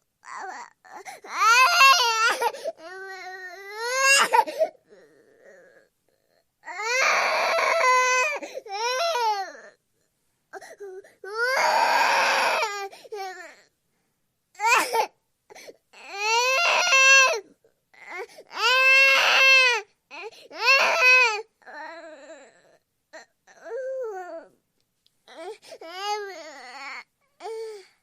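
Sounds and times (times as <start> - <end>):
infant crying: 0.2 - 9.8, 10.5 - 13.7, 14.6 - 24.6, 25.3 - 28.0.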